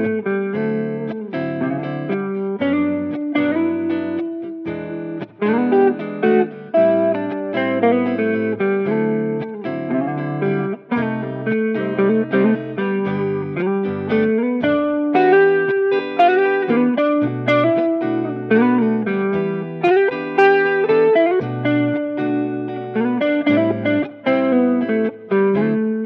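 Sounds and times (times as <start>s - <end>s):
plucked guitar music: 0.0s - 26.0s.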